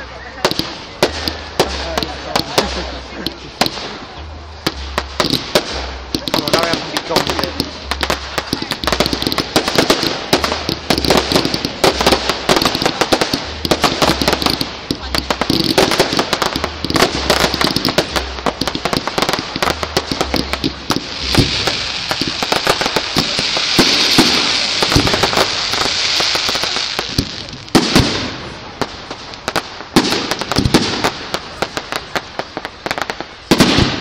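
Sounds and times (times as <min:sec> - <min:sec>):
fireworks crackling pops: 0:00.0 - 0:34.0
fireworks fizzing crackle: 0:00.0 - 0:34.0.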